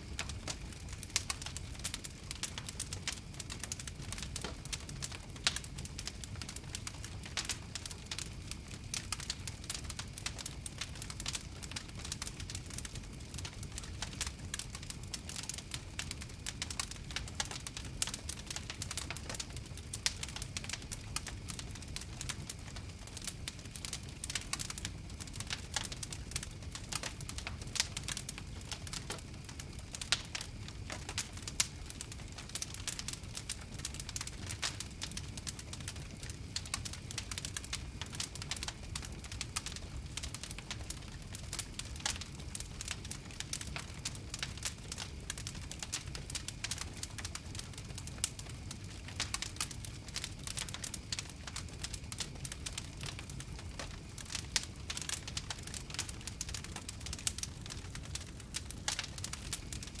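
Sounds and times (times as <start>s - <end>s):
low rumble of flames: 0.0s - 60.0s
wood fire crackling: 0.0s - 60.0s.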